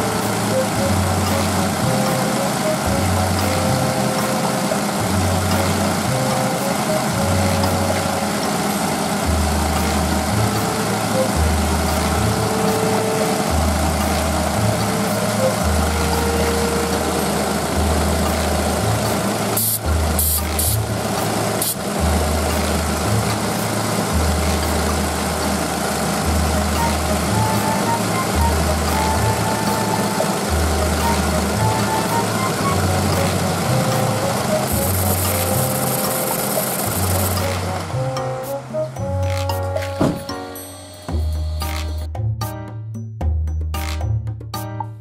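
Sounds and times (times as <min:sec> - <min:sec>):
car engine idling: 0:00.0 - 0:40.6.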